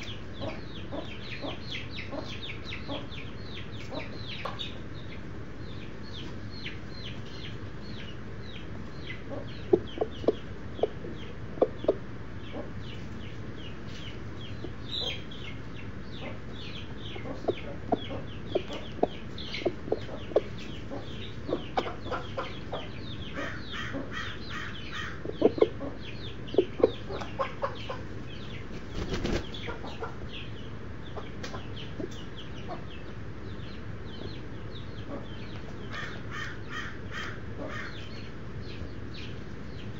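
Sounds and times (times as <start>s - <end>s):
baby chicks peeping: 0.0s - 39.9s
chickens clucking: 0.0s - 39.9s.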